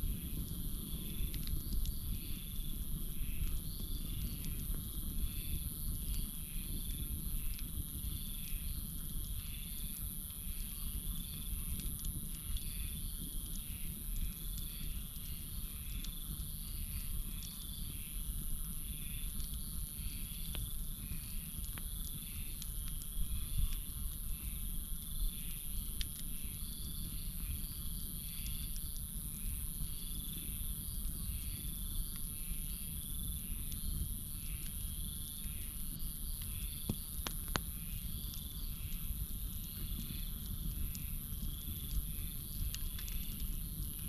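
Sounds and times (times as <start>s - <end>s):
campfire crackling: 0.0s - 44.0s
crickets chirping: 0.0s - 44.0s.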